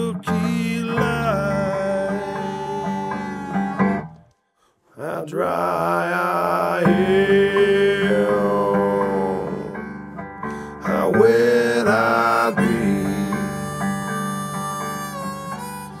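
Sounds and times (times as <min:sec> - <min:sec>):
song with guitar and singing: 0:00.0 - 0:04.3, 0:05.0 - 0:16.0.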